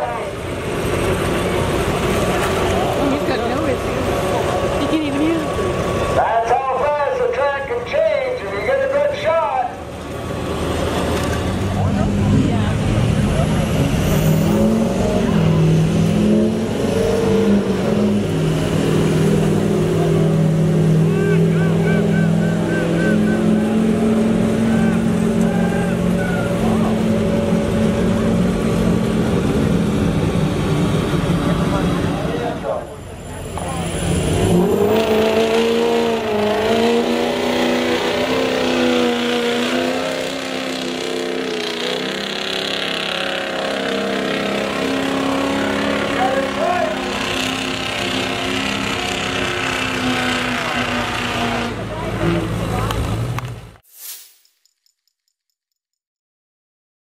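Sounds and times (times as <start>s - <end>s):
truck engine revving under load: 0.0s - 9.1s, 9.8s - 53.8s.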